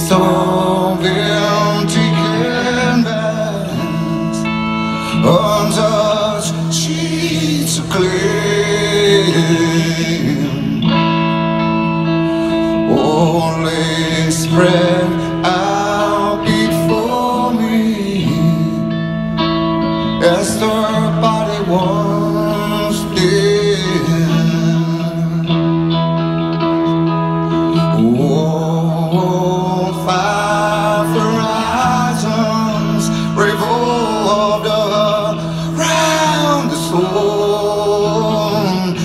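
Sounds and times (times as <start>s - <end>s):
man singing: 0.0s - 11.4s, 12.6s - 19.1s, 20.1s - 25.9s, 27.6s - 39.0s
strummed guitar chords: 0.0s - 39.0s.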